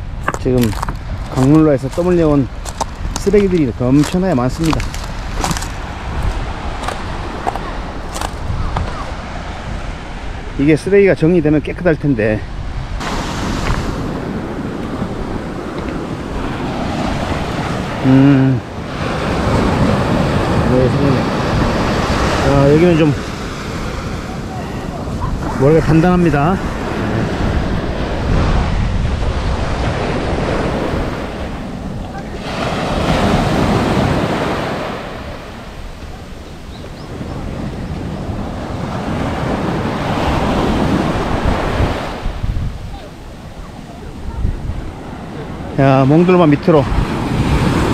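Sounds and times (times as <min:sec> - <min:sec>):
small waves washing on sand: 0:00.0 - 0:47.9
wind buffeting microphone: 0:00.0 - 0:47.9.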